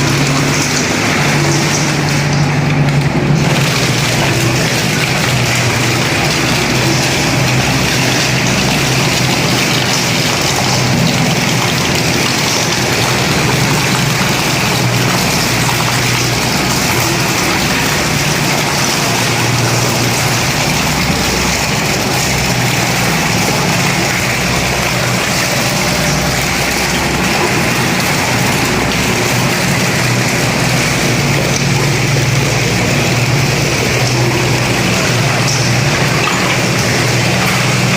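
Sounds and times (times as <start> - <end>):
road roller engine running: 0.0 - 37.9.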